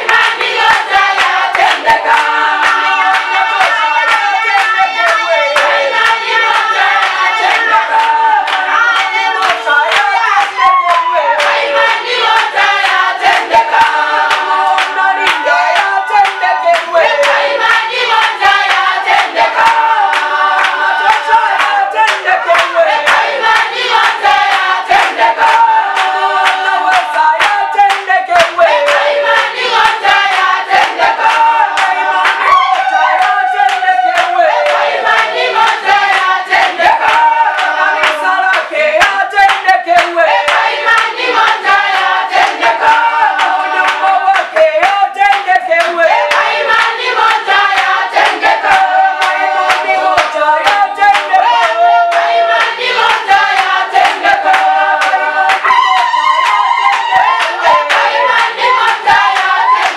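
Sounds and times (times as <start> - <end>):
congregation singing: 0.0 - 59.9
rhythmic hand clapping: 0.0 - 59.9.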